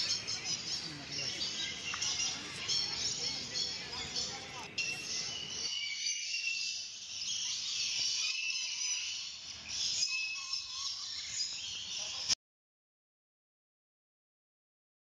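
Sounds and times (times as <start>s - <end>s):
birds chirping chorus: 0.0s - 12.4s.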